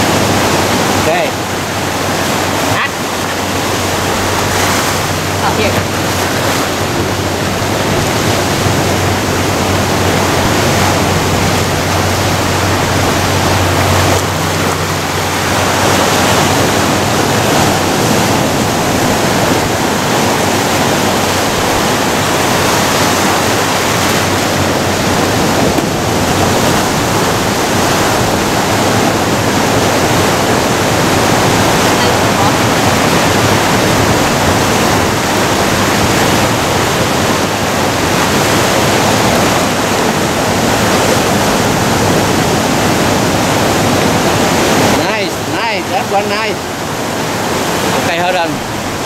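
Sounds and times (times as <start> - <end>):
ocean surf breaking over rocks: 0.0 - 49.0.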